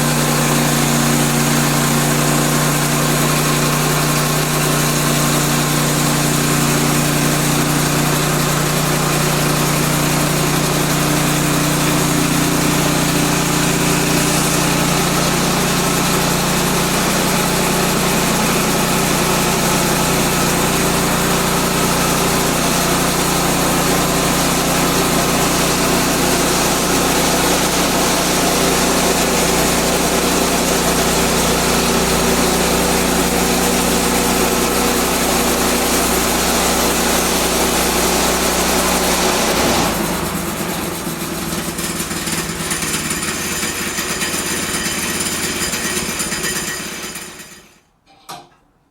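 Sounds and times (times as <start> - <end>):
sawmill petrol engine running: 0.0 - 47.9.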